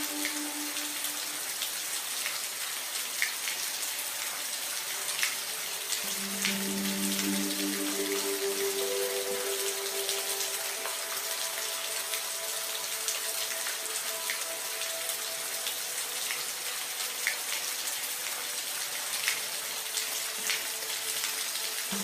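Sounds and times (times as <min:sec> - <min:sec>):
steady rain hissing: 0:00.0 - 0:22.0.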